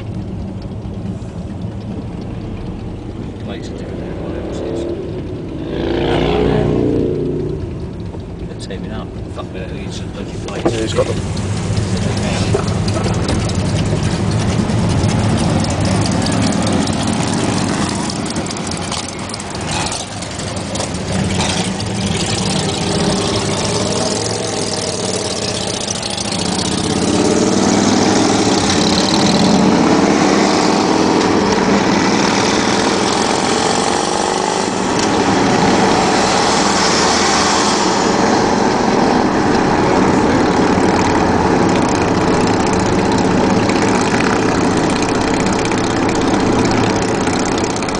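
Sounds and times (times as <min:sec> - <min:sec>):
vehicle engines in traffic: 0:00.0 - 0:47.9.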